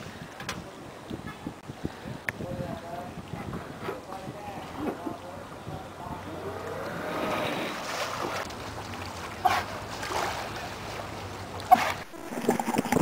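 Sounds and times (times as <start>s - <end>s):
harbour water noise: 0.0s - 13.0s
wind: 0.0s - 13.0s.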